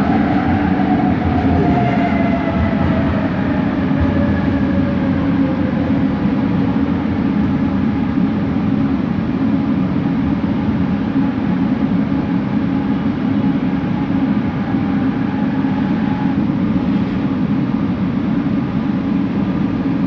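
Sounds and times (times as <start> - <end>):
train rumble from inside: 0.0 - 20.0.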